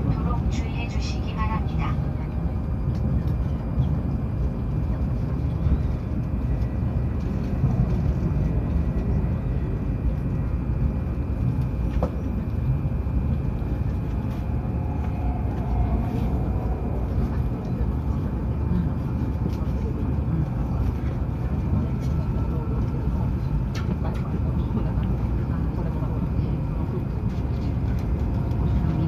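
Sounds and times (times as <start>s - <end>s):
train cabin rumble: 0.0s - 29.0s.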